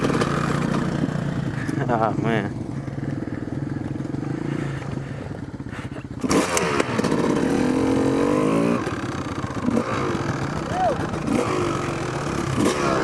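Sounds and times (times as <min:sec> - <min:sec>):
dirt bike engine idling and revving: 0:00.0 - 0:13.0.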